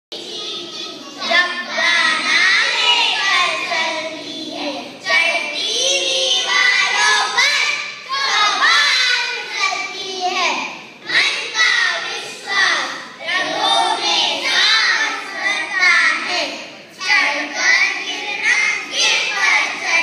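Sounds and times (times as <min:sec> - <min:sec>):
children singing together: 0:00.1 - 0:20.0.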